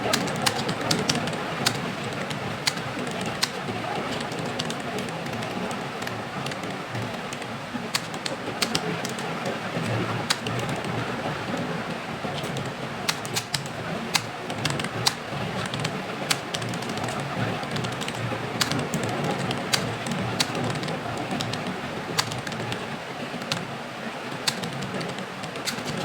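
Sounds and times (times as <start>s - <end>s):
keyboard typing clicks: 0.0s - 23.7s, 24.4s - 26.0s
low background noise: 0.0s - 26.0s.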